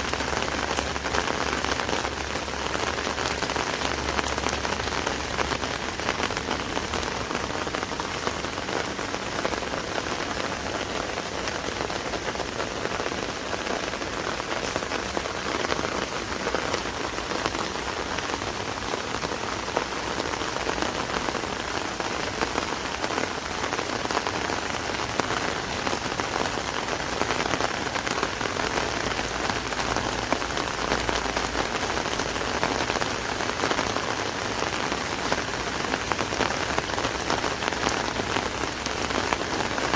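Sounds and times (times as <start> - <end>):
rain drumming on an umbrella: 0.0 - 39.9.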